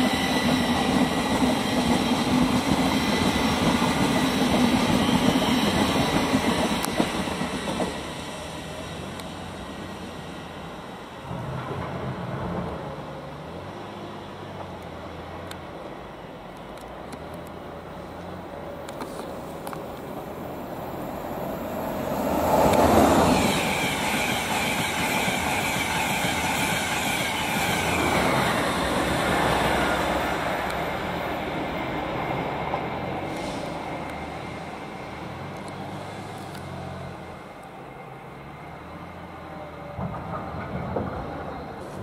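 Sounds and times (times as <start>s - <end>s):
electric train passing at speed: 0.0s - 42.0s.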